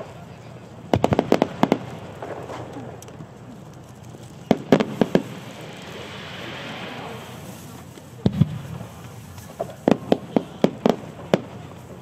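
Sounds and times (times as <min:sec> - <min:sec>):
distant firework reports rumbling: 0:00.0 - 0:12.0
hiss of burning sparks: 0:01.7 - 0:12.0.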